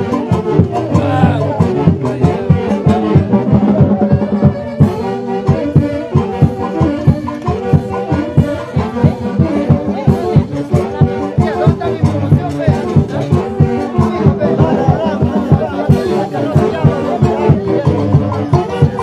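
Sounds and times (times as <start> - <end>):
brass instruments playing melody: 0.0 - 19.0
quick drum beat: 0.0 - 19.0.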